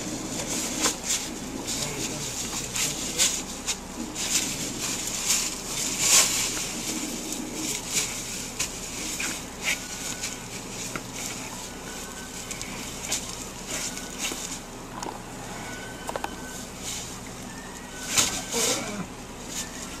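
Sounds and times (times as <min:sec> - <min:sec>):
dry leaves crackling and rustling: 0:00.0 - 0:20.0.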